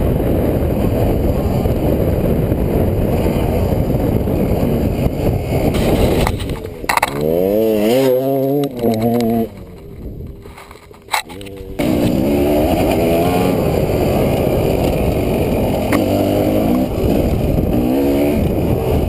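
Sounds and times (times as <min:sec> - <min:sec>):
dirt bike engine: 0:00.0 - 0:19.0
dirt bike engine revving: 0:00.0 - 0:19.0
wind buffeting microphone: 0:00.0 - 0:19.0.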